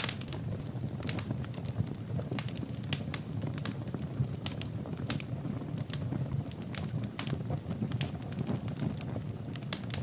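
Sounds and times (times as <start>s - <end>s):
fire crackling and popping: 0.0s - 10.0s
fire rumbling: 0.0s - 10.0s.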